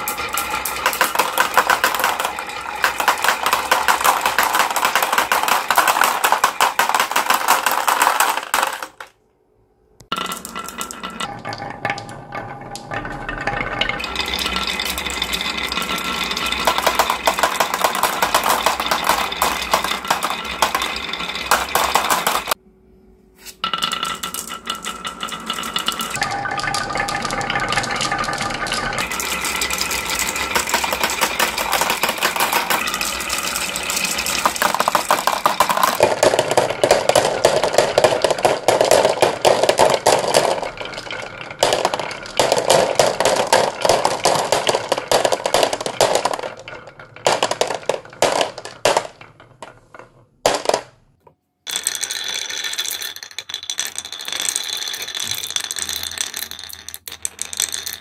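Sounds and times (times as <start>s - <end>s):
glass marbles rolling on wooden tracks: 0.0s - 9.2s, 10.1s - 22.6s, 23.5s - 51.0s, 51.7s - 58.0s.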